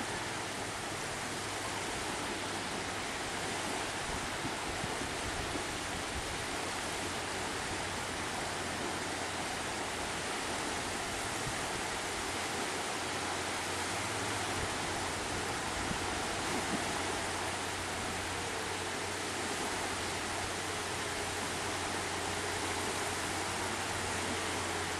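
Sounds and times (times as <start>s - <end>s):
surf washing onto beach: 0.0s - 24.9s.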